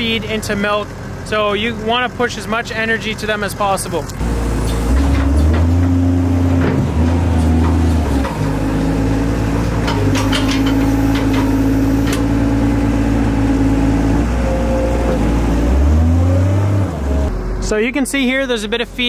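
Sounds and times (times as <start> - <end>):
diesel engine working under load: 0.0 - 19.0.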